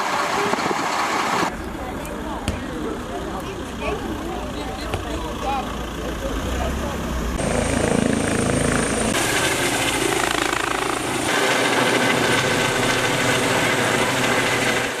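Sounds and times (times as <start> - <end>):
helicopter rotor beat: 0.0 - 15.0.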